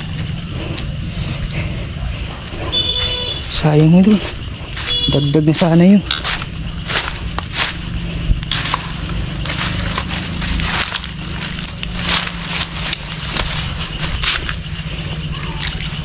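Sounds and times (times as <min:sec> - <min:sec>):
footsteps crunching dry leaves: 0:02.7 - 0:16.0.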